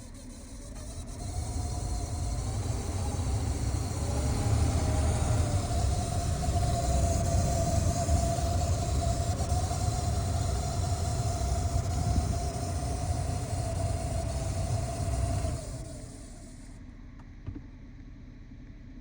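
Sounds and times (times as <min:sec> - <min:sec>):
heater steady whine: 0:00.0 - 0:19.0.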